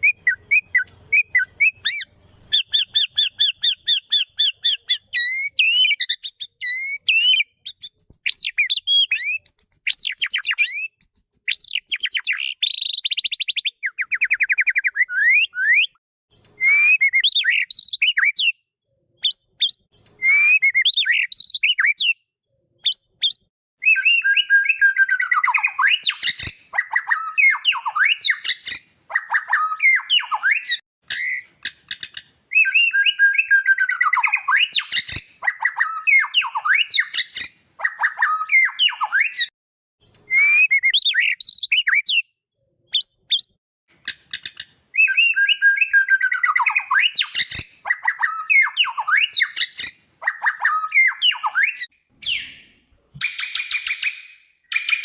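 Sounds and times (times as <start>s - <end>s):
songbird whistling and chattering: 0.0s - 18.6s, 19.2s - 22.2s, 22.8s - 39.5s, 40.2s - 55.0s.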